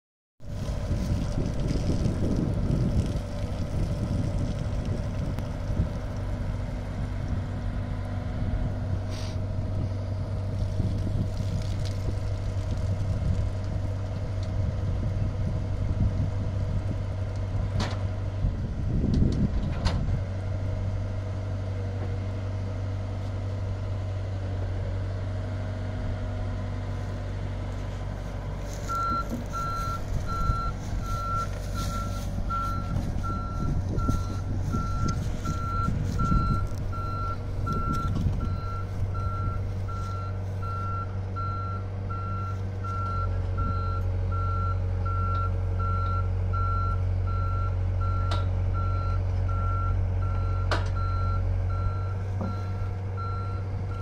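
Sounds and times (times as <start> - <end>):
diesel engine running: 0.4 - 54.0.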